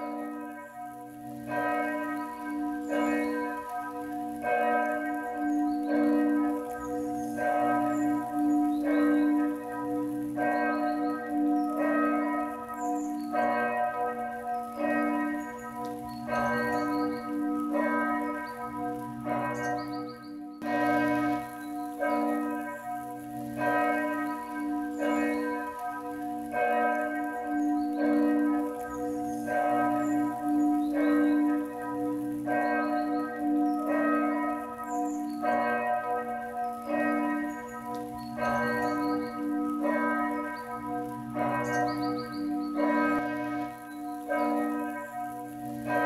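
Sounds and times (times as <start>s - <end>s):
church bells ringing: 0.0s - 46.0s.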